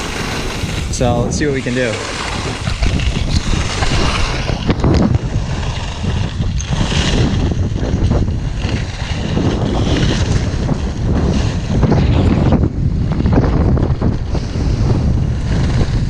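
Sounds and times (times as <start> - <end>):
gusty wind buffeting microphone: 0.0 - 16.0.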